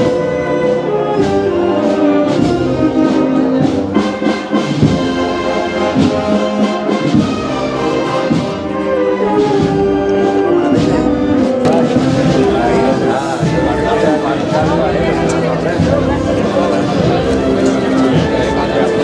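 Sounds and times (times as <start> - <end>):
brass chords: 0.0 - 19.0
drum beats: 0.0 - 19.0.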